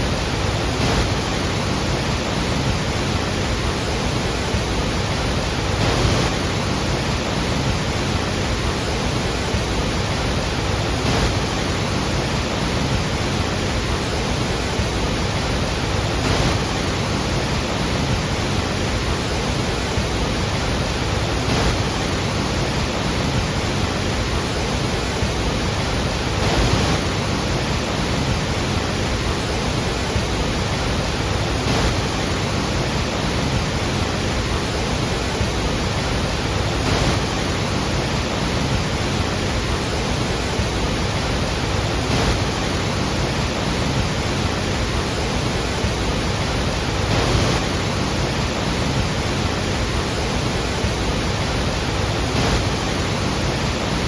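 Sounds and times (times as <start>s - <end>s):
waterfall roar: 0.0s - 54.0s.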